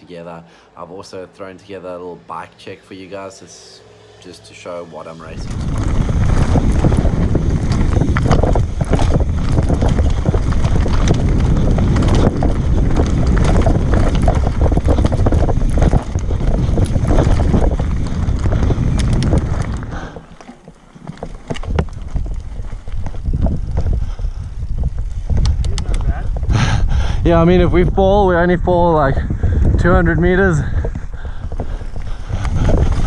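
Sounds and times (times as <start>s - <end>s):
bike rattling on rough trail: 4.3s - 33.0s
wind buffeting microphone: 5.1s - 20.4s, 21.0s - 33.0s.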